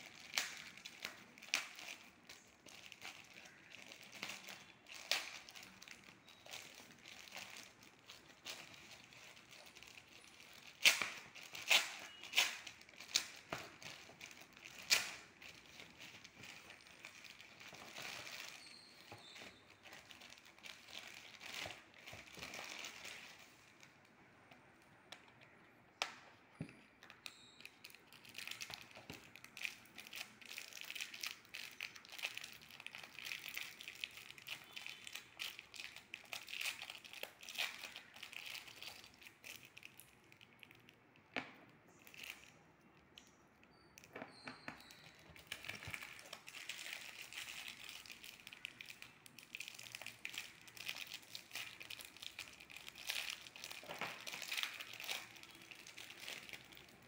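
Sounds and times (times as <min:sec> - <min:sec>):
plastic wrapping crinkling: 0:00.0 - 0:57.0.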